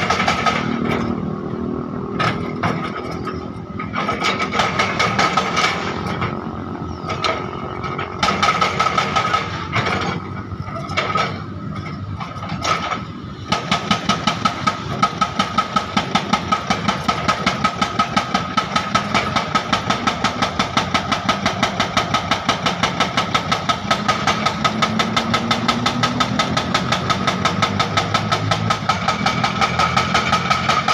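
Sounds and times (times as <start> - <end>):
excavator diesel engine under load: 0.0 - 30.9.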